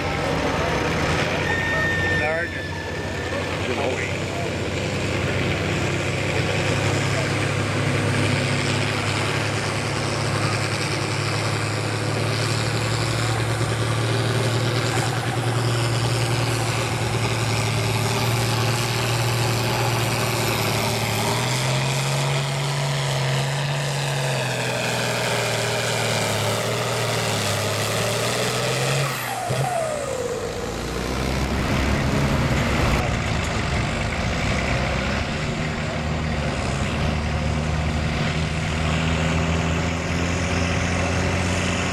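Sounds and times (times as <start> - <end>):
tractor engine droning: 0.0 - 41.9.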